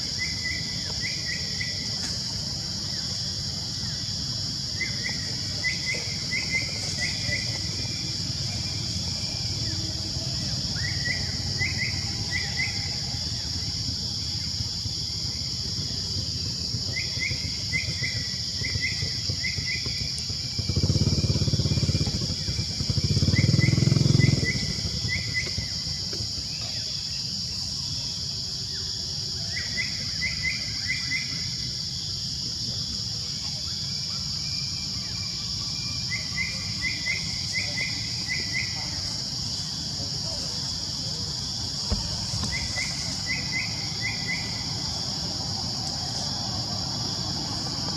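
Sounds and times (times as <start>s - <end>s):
high-pitched insect drone: 0.0s - 47.9s.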